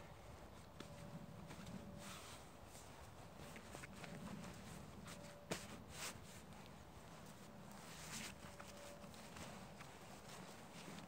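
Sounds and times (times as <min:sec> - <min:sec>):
tent fabric handling: 0:00.0 - 0:11.0.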